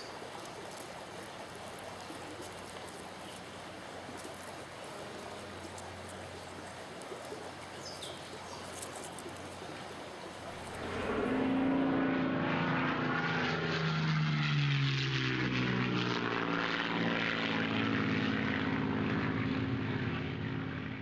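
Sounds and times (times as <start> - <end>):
propeller aircraft passing overhead: 0.0 - 21.0.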